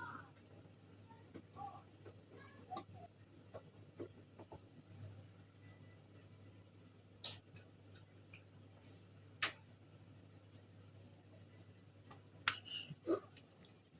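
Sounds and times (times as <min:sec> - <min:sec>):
faint low hum: 0:00.0 - 0:13.9.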